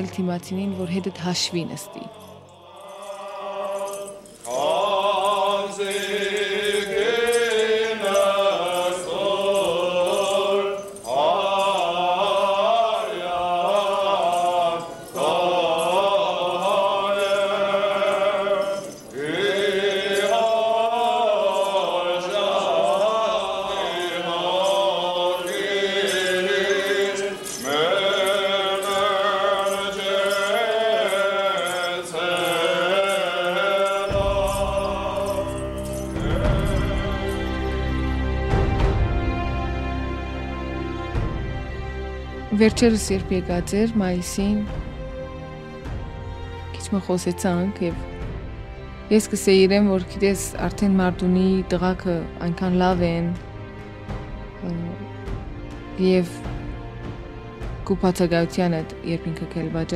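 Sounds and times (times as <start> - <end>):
person chanting ornamented melody: 0.0 - 48.3.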